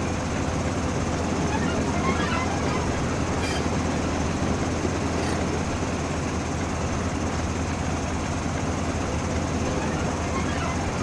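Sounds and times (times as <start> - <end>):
train low rumble: 0.0 - 11.0.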